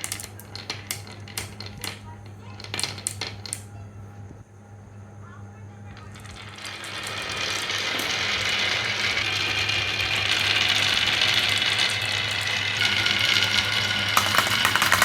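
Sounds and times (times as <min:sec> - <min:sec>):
marbles rattling down wooden run: 0:00.0 - 0:03.7, 0:06.0 - 0:15.0.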